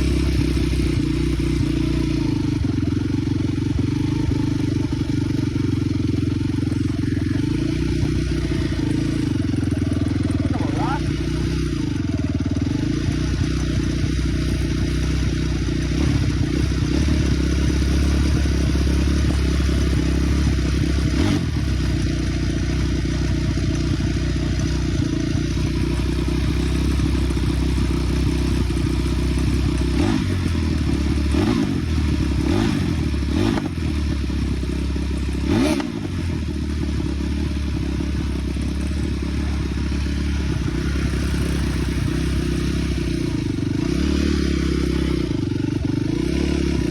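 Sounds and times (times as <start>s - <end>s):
off-road vehicle engine running: 0.0s - 46.9s.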